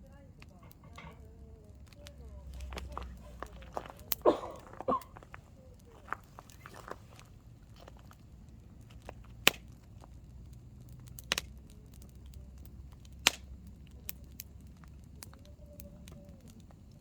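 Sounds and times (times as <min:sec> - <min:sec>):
campfire flame rumble: 0:00.0 - 0:17.0
fire crackling: 0:00.0 - 0:17.0
wood popping loudly: 0:00.4 - 0:17.0.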